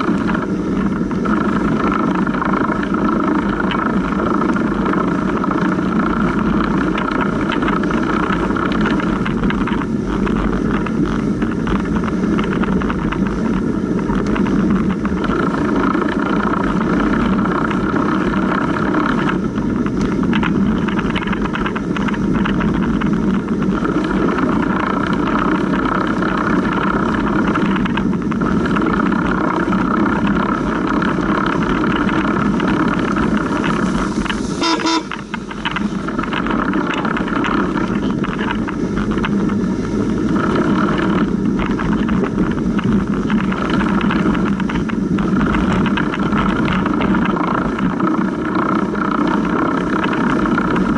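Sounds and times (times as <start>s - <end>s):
bike chain noise: 0.0s - 50.9s
tyres on snow: 0.0s - 50.9s.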